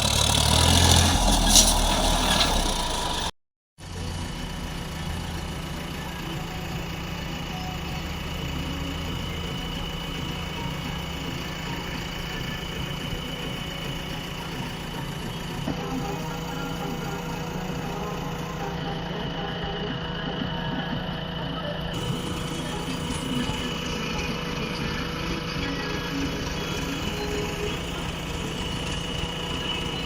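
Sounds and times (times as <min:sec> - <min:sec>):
diesel engine running: 0:00.0 - 0:30.0
faint high whine: 0:04.3 - 0:30.0.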